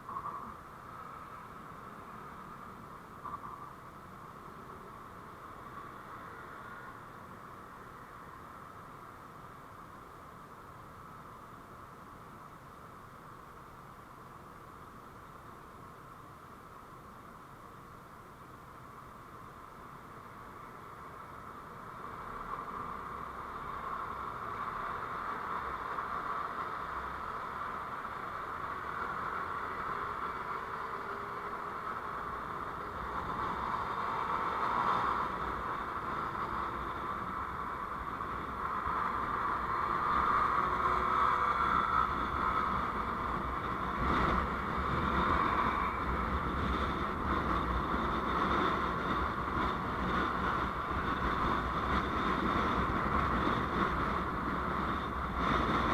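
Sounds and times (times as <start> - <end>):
road and engine noise: 0.0 - 55.9.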